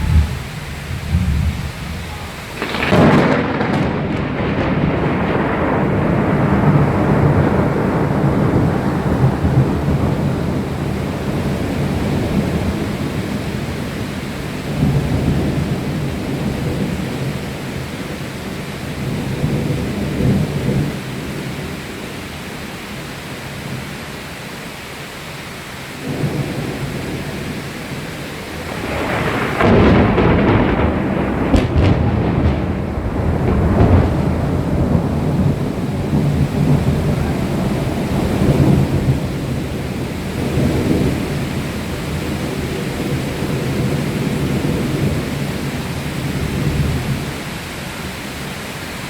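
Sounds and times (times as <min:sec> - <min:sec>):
thunder rumbling: 0:00.0 - 0:24.0, 0:26.0 - 0:49.0
steady rain: 0:00.0 - 0:49.0.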